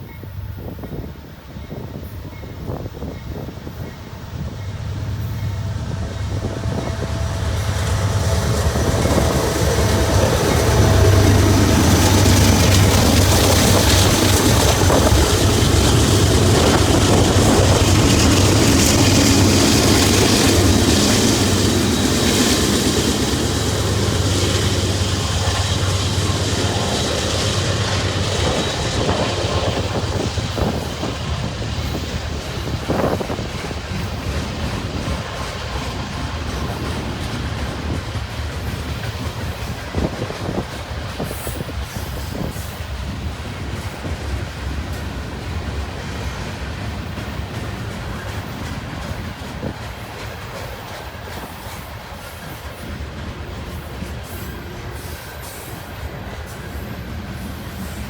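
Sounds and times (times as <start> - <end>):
diesel locomotive drone: 0.0 - 58.0
freight cars clickety-clack: 4.3 - 58.0.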